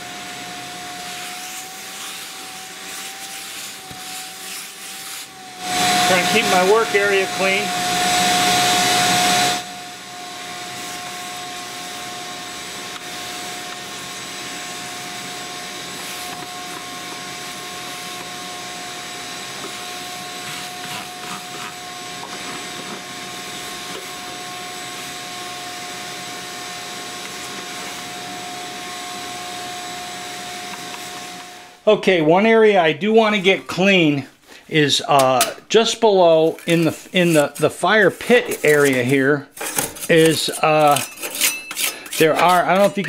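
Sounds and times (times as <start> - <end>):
shop vacuum whining: 0.0 - 43.0.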